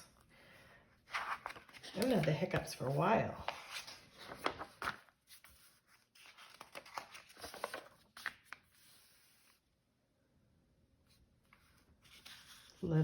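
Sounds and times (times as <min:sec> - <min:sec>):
paper rustling: 0:01.0 - 0:09.6, 0:11.1 - 0:13.0.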